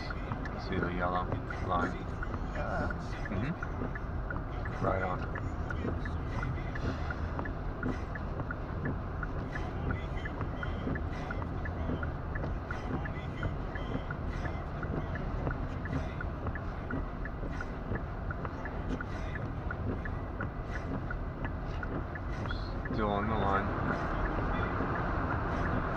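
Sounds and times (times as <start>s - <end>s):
car driving low rumble: 0.0s - 25.9s
light regular ticking: 0.0s - 25.9s.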